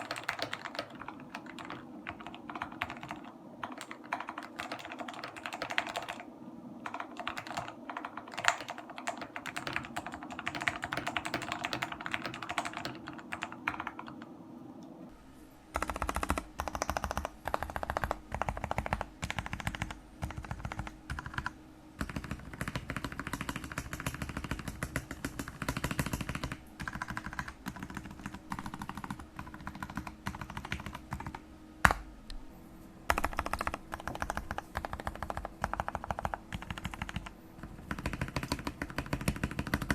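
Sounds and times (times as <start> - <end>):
mechanical keyboard typing: 0.0 - 14.3, 15.8 - 32.0, 33.1 - 39.9.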